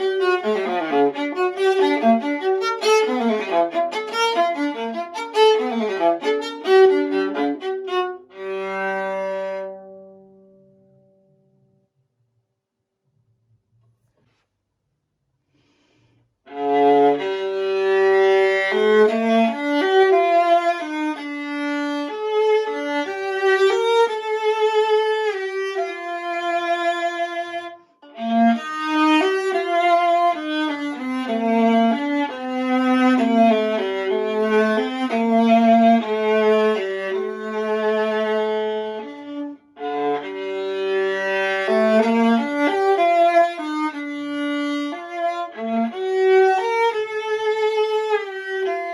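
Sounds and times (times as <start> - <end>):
bowed viola melody: 0.0 - 11.2, 16.5 - 48.9.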